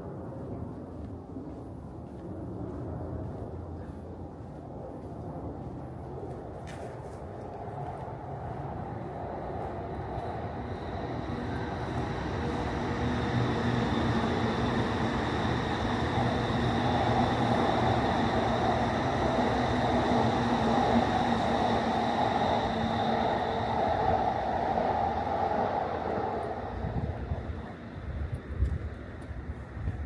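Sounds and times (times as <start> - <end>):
train running past: 0.0 - 30.0.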